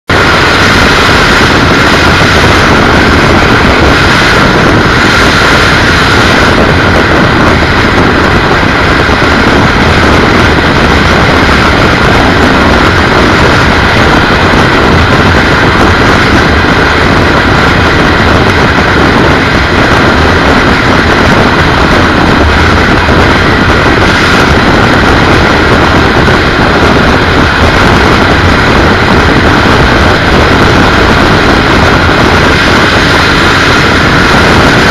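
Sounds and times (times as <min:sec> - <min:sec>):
motorcycle engine running: 0:00.0 - 0:34.9
road noise: 0:00.0 - 0:34.9
wind rush: 0:00.0 - 0:34.9.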